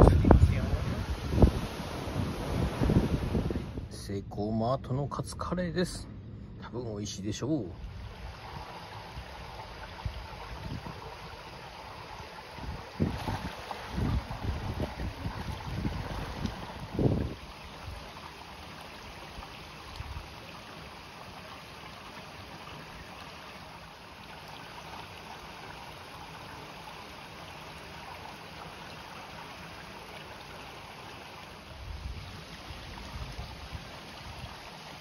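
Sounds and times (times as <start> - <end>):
water rushing over weir: 0.0 - 3.9, 7.8 - 35.0.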